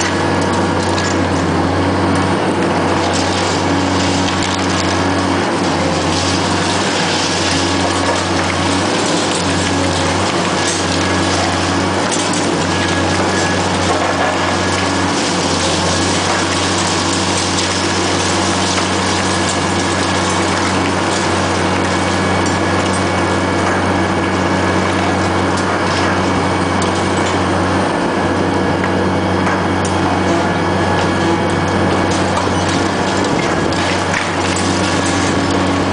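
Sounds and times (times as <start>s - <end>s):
excavator engine and hydraulics: 0.0s - 35.9s
concrete cracking: 2.2s - 27.8s, 29.5s - 35.9s.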